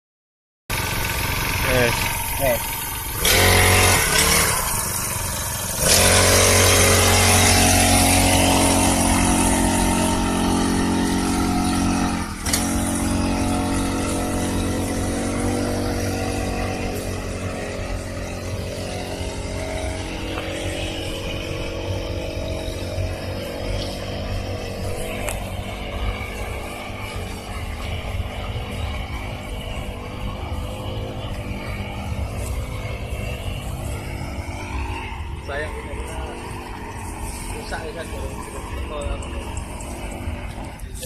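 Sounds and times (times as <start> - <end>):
small petrol engine running: 0.7 - 41.0.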